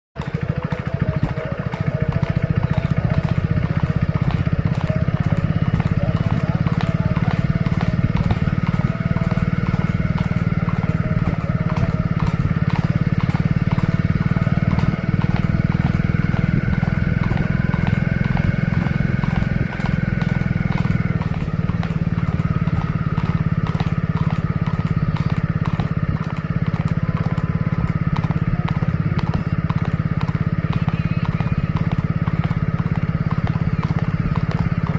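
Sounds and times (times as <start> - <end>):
horse hooves beating: 0.2 - 34.9
steady engine drone: 0.2 - 34.9.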